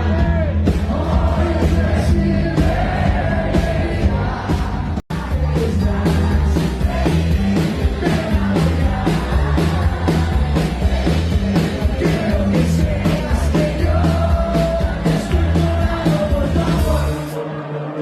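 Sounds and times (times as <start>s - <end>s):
drum beat: 0.0s - 17.2s
bass line: 0.0s - 17.4s
rock band playing: 0.0s - 17.6s
person singing: 0.0s - 18.0s.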